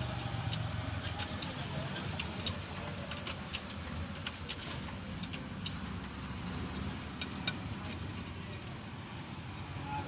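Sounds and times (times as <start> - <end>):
sharp metallic clicks: 0.0 - 8.8
low engine rumble: 0.0 - 10.0.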